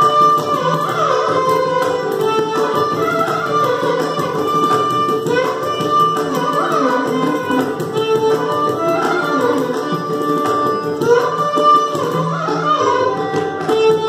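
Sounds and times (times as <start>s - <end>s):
hand drums playing rhythm: 0.0s - 14.0s.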